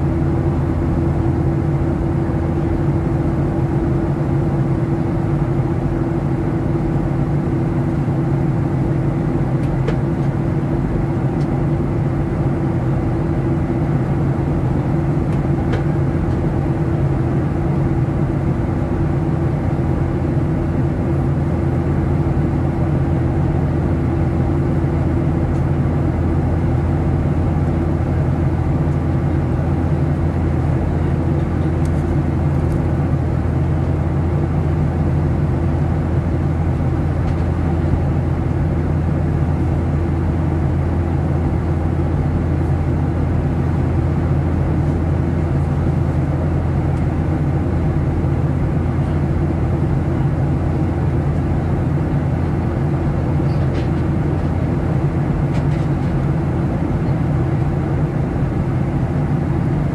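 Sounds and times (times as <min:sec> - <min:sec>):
airplane engine hum: 0:00.0 - 0:59.9.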